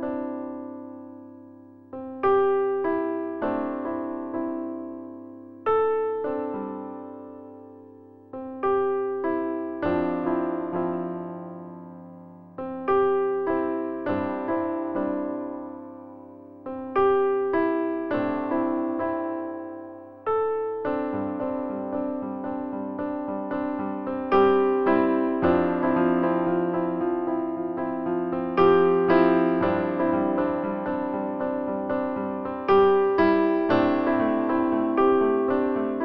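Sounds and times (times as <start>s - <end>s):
keyboard melody: 0.0s - 36.0s.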